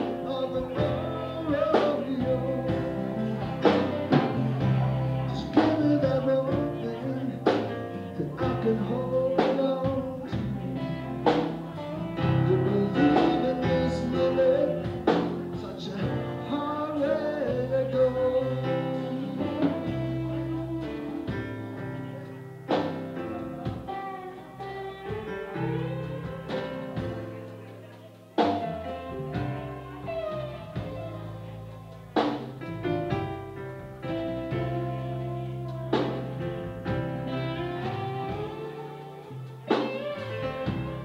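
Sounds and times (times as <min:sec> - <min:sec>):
blues-rock band playing: 0:00.0 - 0:41.0
electric guitar: 0:00.0 - 0:41.0.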